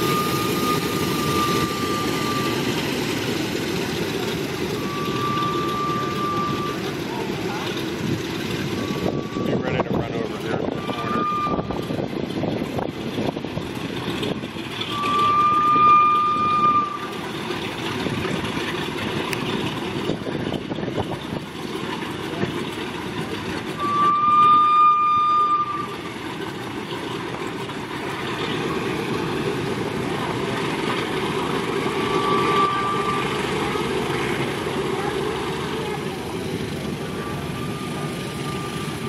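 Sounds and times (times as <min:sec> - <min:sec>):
high steady squeal: 0:00.0 - 0:39.0
propeller aircraft engines running: 0:00.0 - 0:39.0.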